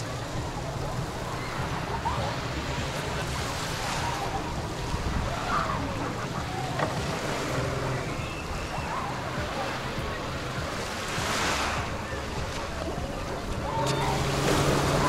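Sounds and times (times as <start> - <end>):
faint distant voices: 0.0 - 15.0
waves washing over pebbles: 0.0 - 15.0.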